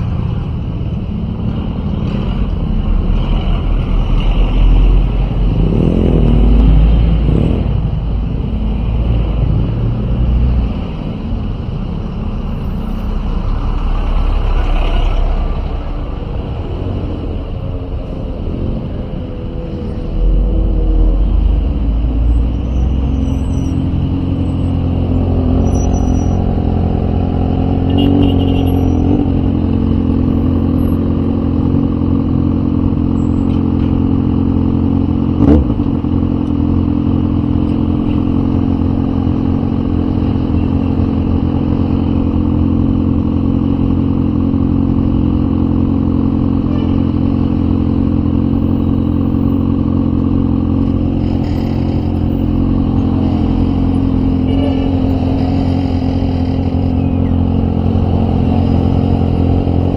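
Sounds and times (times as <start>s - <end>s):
street traffic: 0.0s - 59.9s.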